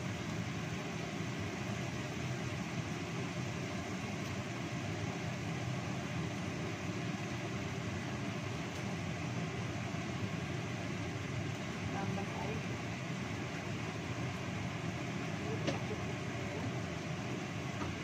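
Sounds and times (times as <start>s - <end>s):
range hood fan humming: 0.0s - 18.0s.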